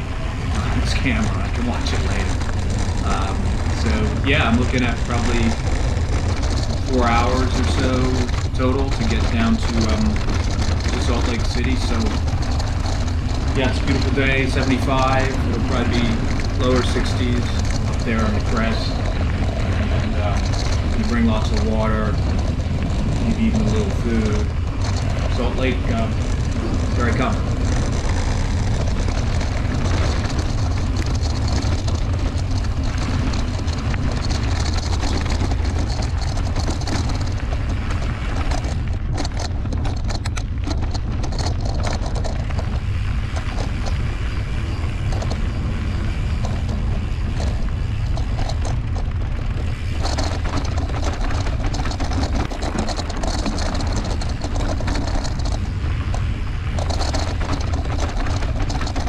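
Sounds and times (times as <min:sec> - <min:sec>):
bike rattling over rough ground: 0:00.0 - 0:59.0
bike tyre noise: 0:00.0 - 0:59.0
wind on microphone: 0:00.0 - 0:59.0.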